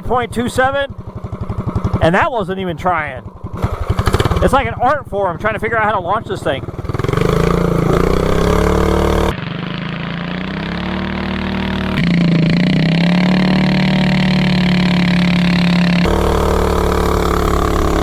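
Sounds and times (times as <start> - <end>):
minibike engine revving: 0.0 - 18.0.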